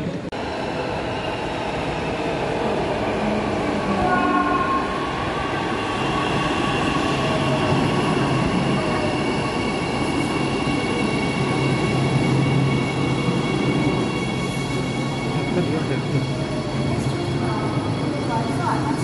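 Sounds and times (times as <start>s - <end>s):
light-rail train rumble: 0.0s - 19.0s
train high whine: 0.0s - 19.0s.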